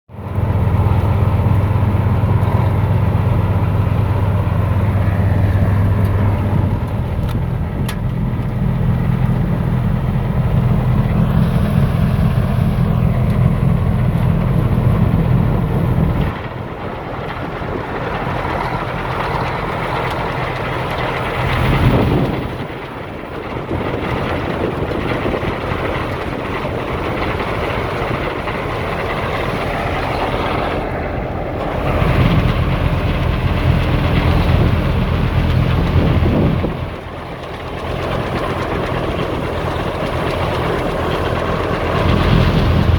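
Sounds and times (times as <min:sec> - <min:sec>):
blower rushing snow: 0:00.1 - 0:42.9
snow blower engine drone: 0:00.1 - 0:42.9.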